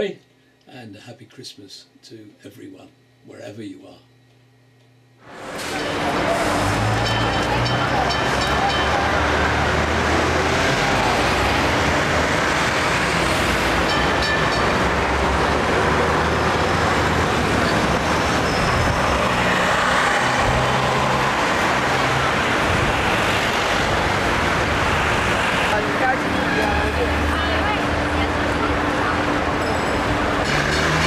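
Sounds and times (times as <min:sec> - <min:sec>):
street traffic: 0:05.2 - 0:31.0
tram running noise: 0:05.4 - 0:31.0.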